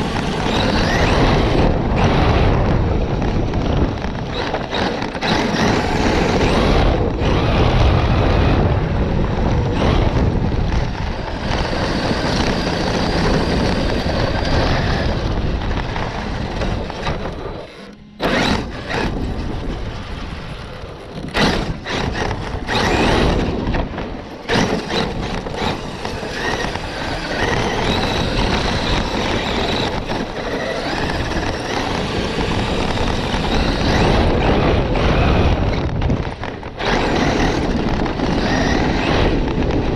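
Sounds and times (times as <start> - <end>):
electric motors whining: 0.0 - 39.9
tyre and ground noise: 0.0 - 39.9.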